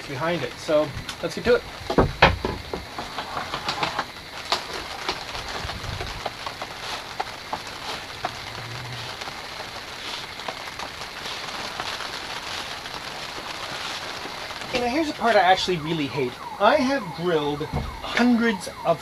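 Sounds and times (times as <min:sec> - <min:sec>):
steady patter and hiss: 0:00.0 - 0:19.0.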